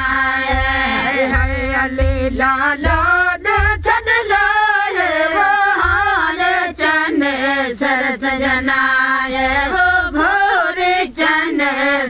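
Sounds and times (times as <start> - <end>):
women singing folk song: 0.0 - 12.0.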